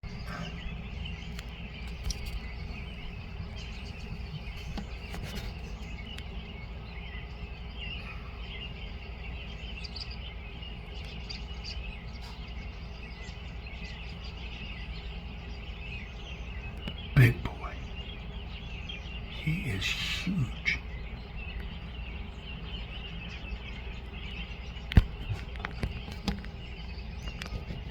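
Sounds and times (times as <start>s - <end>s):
constant low rumble: 0.0s - 27.9s
small birds chirping: 0.0s - 27.9s.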